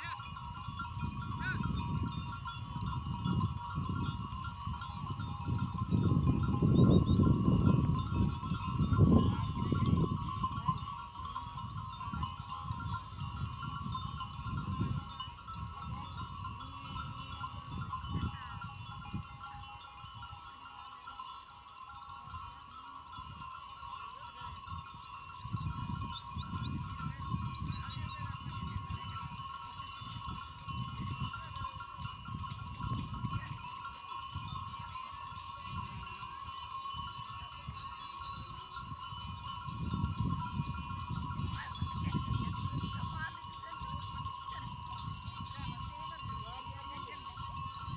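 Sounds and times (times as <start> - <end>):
goat bells clinking: 0.0 - 47.9.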